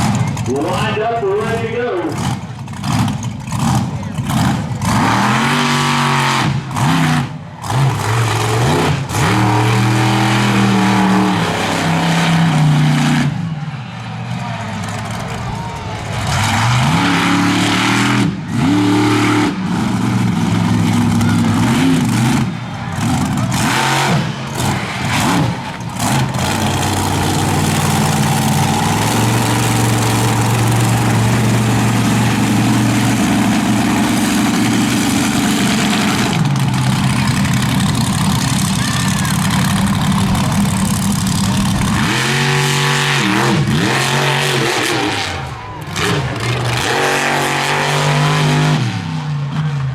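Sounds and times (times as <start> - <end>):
truck engine revving hard: 0.0 - 49.9.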